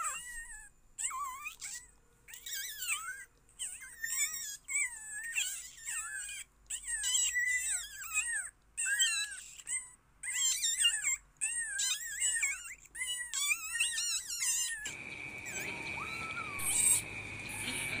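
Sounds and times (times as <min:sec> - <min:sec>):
kittens mewing: 0:00.0 - 0:18.0.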